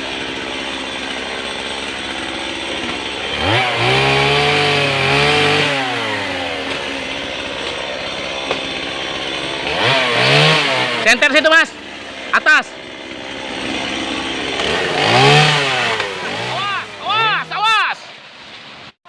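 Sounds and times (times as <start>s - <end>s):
chainsaw revving: 0.0s - 18.9s.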